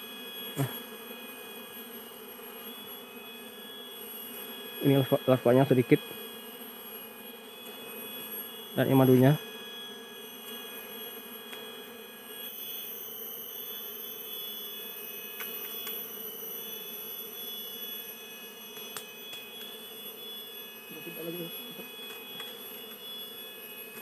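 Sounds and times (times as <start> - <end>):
bee colony buzzing: 0.0 - 24.0.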